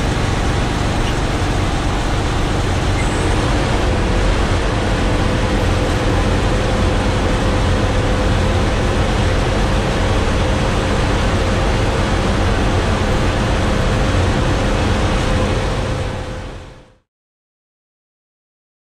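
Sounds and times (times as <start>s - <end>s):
truck diesel engine running: 0.0s - 16.9s
road and cab noise: 0.0s - 17.0s
steady whine: 0.0s - 17.0s.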